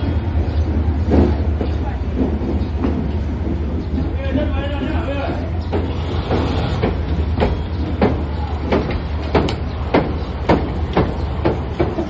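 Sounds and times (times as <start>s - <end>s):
train rumbling: 0.0s - 12.0s
train wheels knocking: 0.0s - 12.0s.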